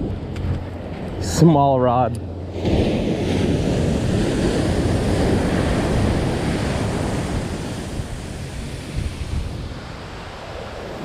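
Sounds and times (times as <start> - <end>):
ocean surf breaking on a beach: 0.0 - 11.0
wind buffeting microphone: 0.0 - 11.0.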